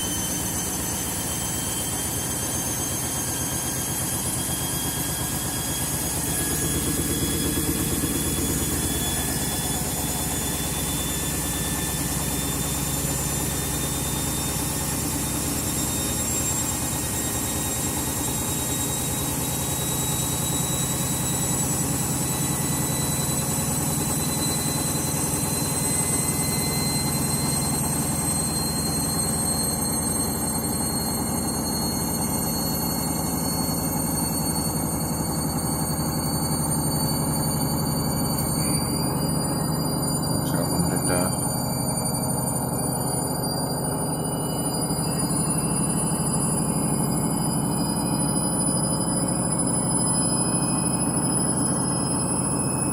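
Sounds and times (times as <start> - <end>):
washing machine motor whining: 0.0 - 52.9.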